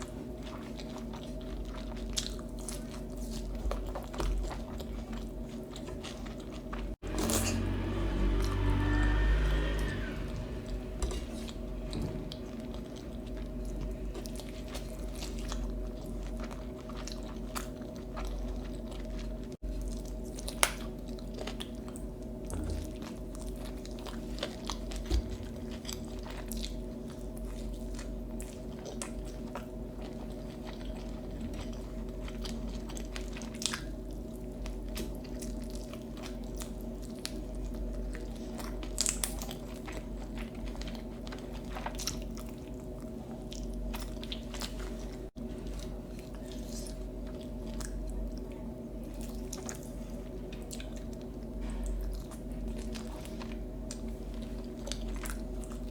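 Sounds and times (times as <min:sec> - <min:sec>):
person chewing crunchy food: 0:00.0 - 0:55.9
steady low hum: 0:00.0 - 0:55.9.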